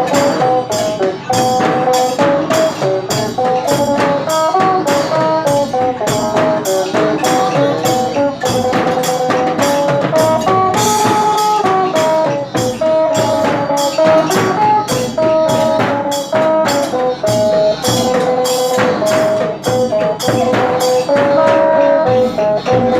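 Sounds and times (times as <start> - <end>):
plucked lute melody: 0.0 - 22.9
steady percussion beat: 0.0 - 22.9.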